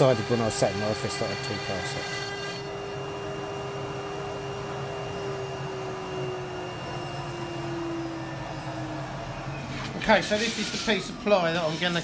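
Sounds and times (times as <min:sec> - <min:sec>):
router spindle whine: 0:00.0 - 0:12.0.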